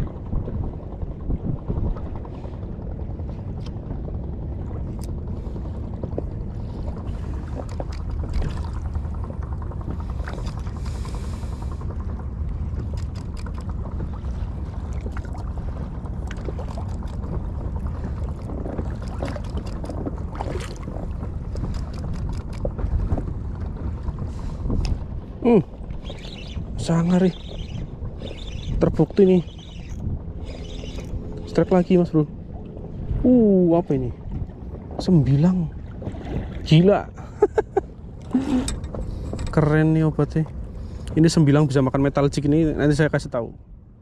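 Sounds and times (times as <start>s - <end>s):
wind and water rumble: 0.0s - 44.0s.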